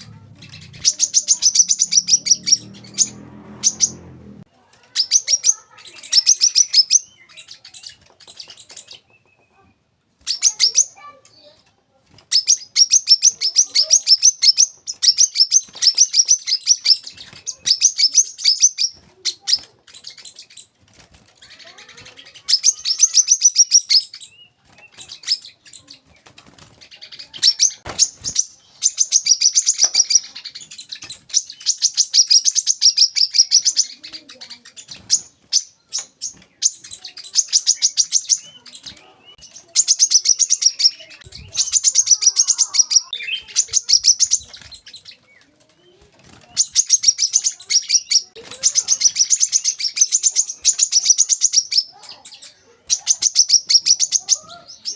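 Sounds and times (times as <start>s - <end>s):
bird fast high chattering song: 0.0s - 54.9s.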